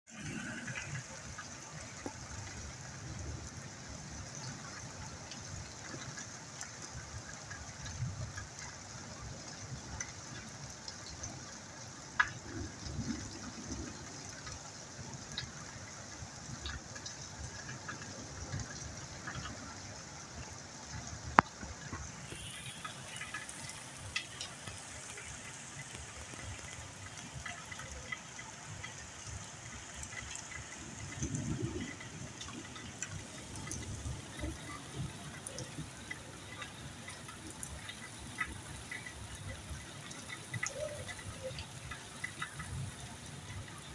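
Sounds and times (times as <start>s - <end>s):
steady rain on wet ground: 0.1s - 43.9s.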